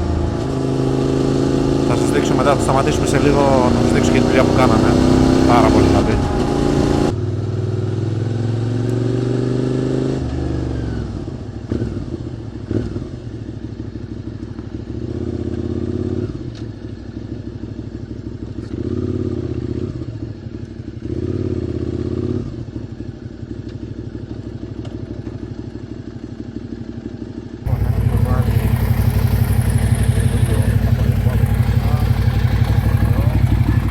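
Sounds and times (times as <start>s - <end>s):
motorcycle engine revving: 0.0s - 25.4s, 26.5s - 33.9s.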